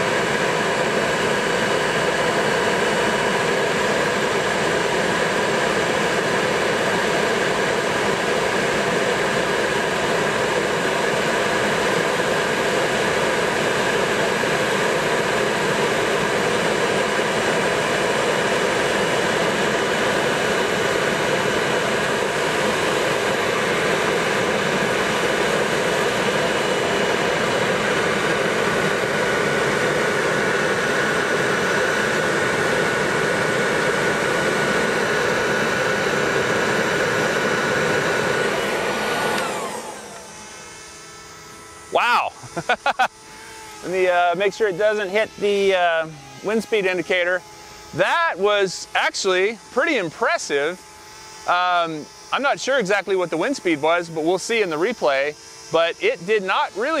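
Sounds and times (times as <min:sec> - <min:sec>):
leaf blower running: 0:00.0 - 0:57.0.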